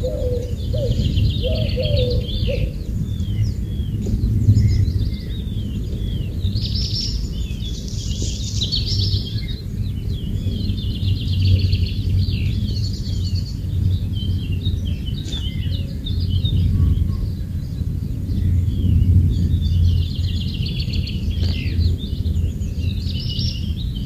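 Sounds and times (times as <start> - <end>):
birds chirping: 0.0 - 24.0
low background rumble: 0.0 - 24.0.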